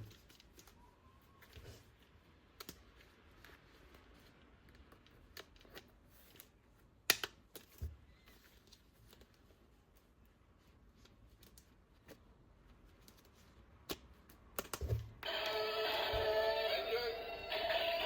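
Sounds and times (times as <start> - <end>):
plastic toys and packaging handled: 0.0 - 18.0.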